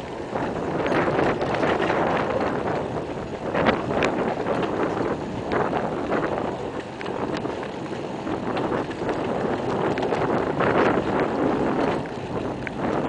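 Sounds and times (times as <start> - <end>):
footsteps on brick paving: 0.0 - 12.8
wind buffeting microphone: 0.0 - 13.0.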